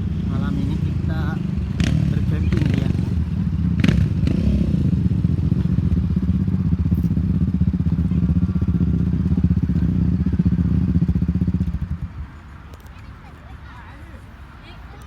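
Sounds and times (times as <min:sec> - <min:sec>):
vehicle engine low rumble: 0:00.0 - 0:13.4.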